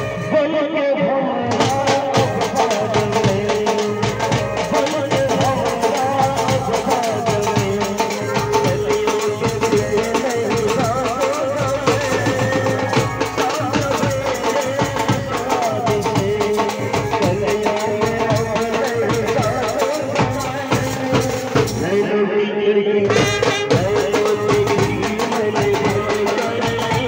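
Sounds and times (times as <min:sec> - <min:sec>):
man singing into microphone: 0:00.0 - 0:27.0
barrel drum beating: 0:01.5 - 0:21.9, 0:23.1 - 0:27.0.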